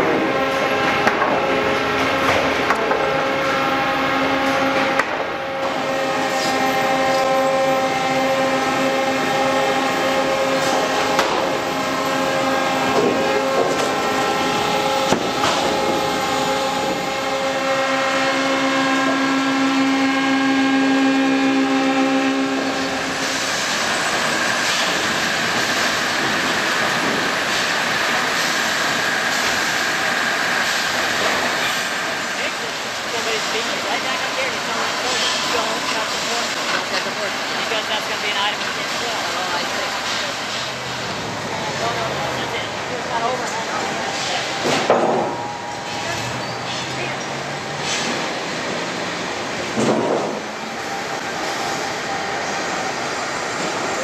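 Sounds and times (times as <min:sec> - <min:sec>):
sawmill machinery whine: 0:00.0 - 0:54.0.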